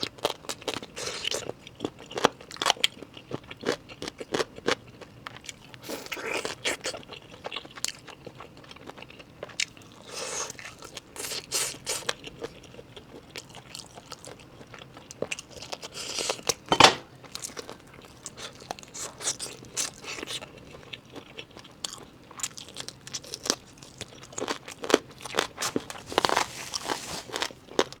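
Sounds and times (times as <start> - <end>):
person chewing crunchy chicken: 0.0 - 28.0.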